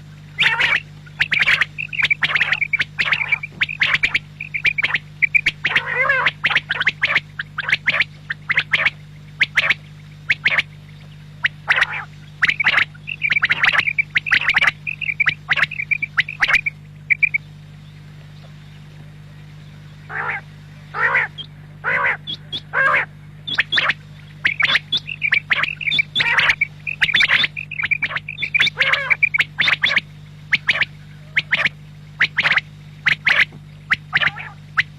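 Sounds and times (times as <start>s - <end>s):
quail calling: 0.0s - 17.5s, 18.2s - 34.9s
steady low hum: 0.0s - 34.9s.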